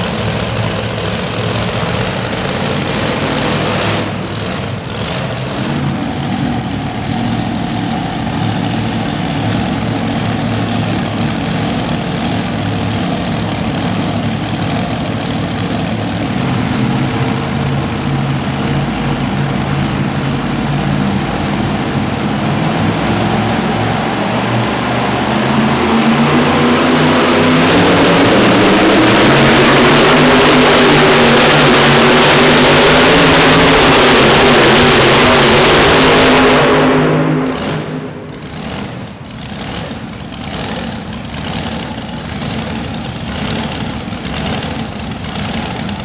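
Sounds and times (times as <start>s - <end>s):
pulling truck engine running: 0.0s - 46.0s.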